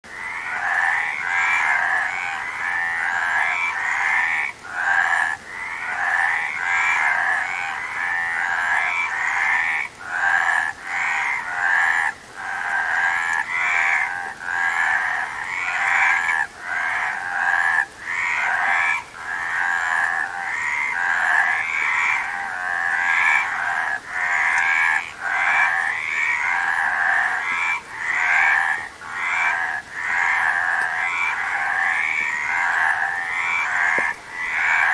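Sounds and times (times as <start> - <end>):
frogs croaking: 0.1 - 34.9.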